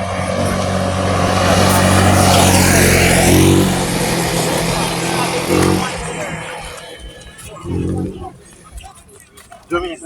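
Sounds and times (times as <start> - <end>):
vehicle driving past: 0.0 - 8.7
tyre and road noise: 0.0 - 10.0.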